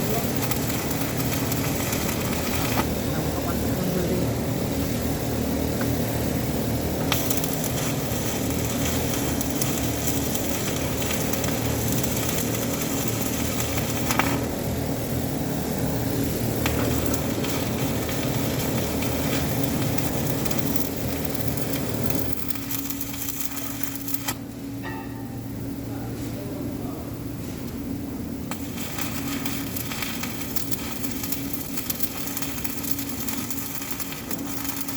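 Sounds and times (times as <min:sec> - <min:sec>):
welding arc crackling sizzle: 0:00.0 - 0:25.9, 0:27.6 - 0:34.9
low machine hum: 0:00.0 - 0:34.9.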